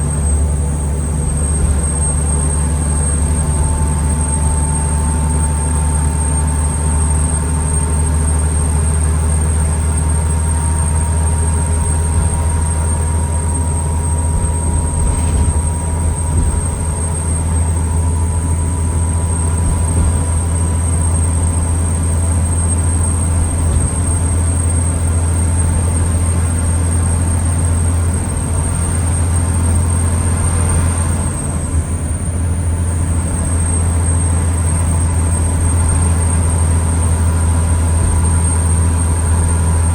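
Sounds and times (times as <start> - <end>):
bus engine drone: 0.0 - 39.9
thin steady whine: 0.0 - 39.9.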